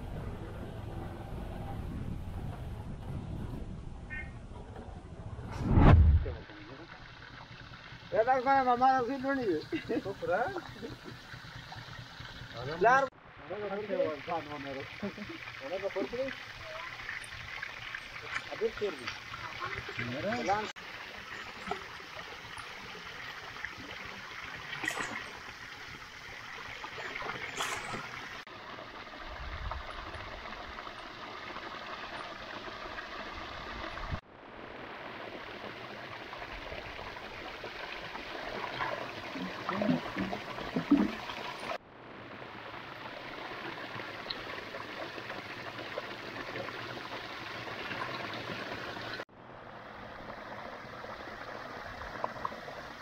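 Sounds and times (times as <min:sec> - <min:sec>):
running water rushing: 0:05.5 - 0:53.0.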